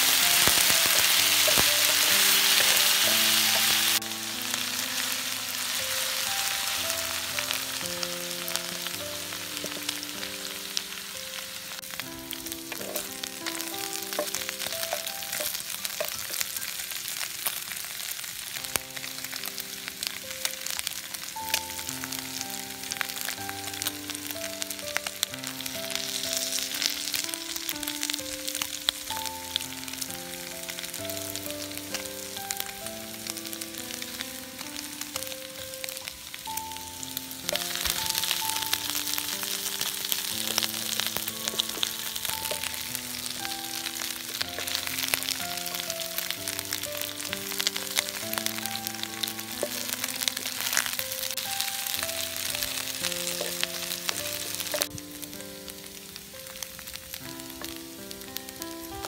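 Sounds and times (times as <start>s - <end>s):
food sizzling in a pan: 0.0s - 59.0s
soft background music: 0.0s - 59.0s.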